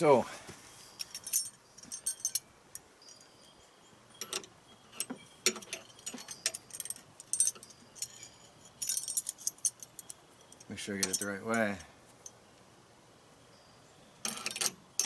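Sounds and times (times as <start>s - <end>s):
small metal hardware clinking: 1.0s - 12.4s, 14.2s - 15.0s.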